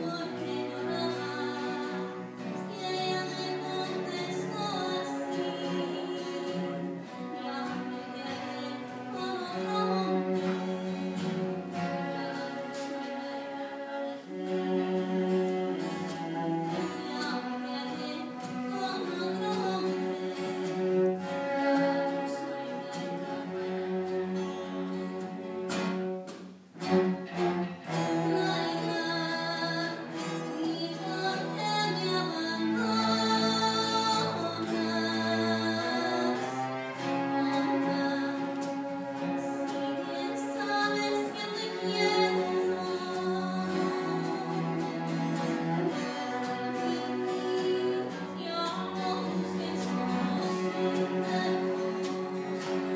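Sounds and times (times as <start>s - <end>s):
person singing: 0.0s - 25.1s, 27.3s - 52.9s
acoustic guitar: 0.0s - 52.9s
bowed strings: 0.0s - 52.9s.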